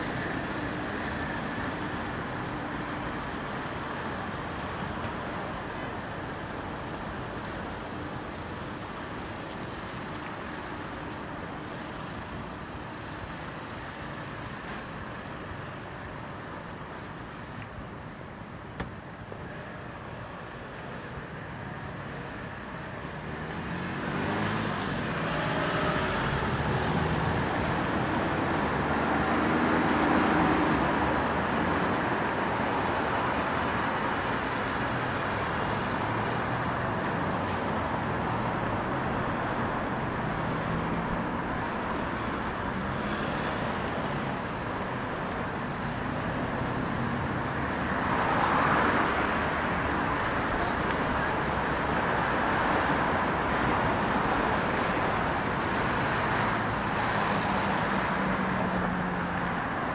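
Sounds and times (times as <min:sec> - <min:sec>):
road traffic hum: 0:00.0 - 0:59.9.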